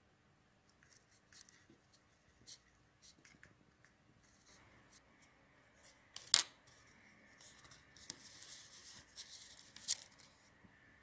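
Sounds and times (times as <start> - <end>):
soft scraping and rustling: 0.8 - 10.6.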